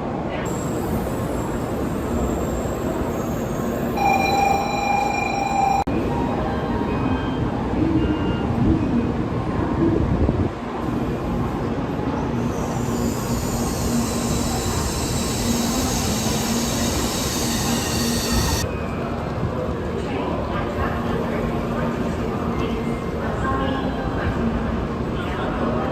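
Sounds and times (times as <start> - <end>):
train rushing through station: 0.0 - 25.9.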